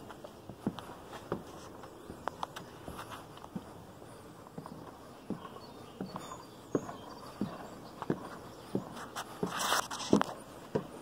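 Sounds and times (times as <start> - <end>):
footsteps climbing stairs: 0.0 - 11.0.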